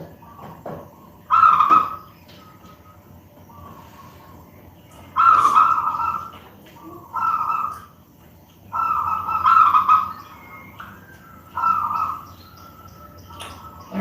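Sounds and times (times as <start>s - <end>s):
dove cooing: 0.0s - 2.1s, 3.5s - 7.9s, 8.7s - 14.0s.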